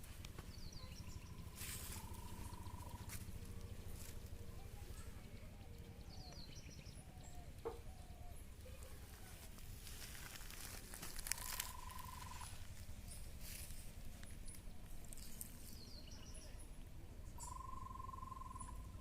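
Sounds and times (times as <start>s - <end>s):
faint bird calls: 0.0s - 19.0s
steady low rumble: 0.0s - 19.0s
trilled bird call: 0.5s - 16.6s, 17.2s - 19.0s.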